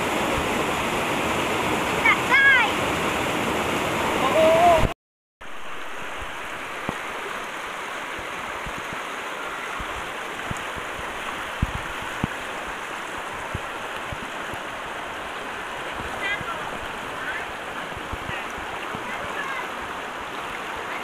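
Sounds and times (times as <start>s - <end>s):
river flowing over stones: 0.0s - 21.0s.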